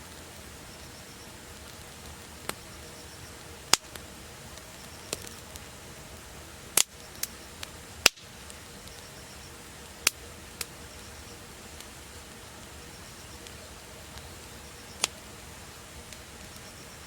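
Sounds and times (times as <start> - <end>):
campfire crackling and popping: 0.0 - 17.0
soft steady hiss: 0.0 - 17.0.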